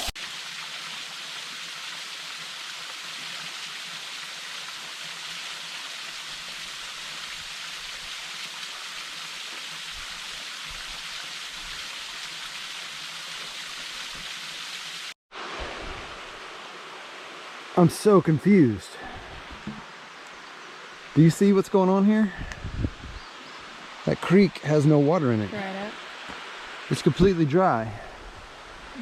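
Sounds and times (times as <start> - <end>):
small waterfall splashing: 0.0 - 22.4, 23.3 - 29.0.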